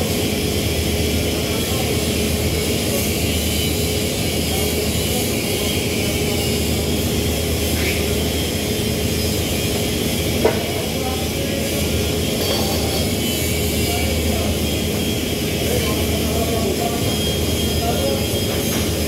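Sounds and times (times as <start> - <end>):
workshop machinery drone: 0.0 - 19.0.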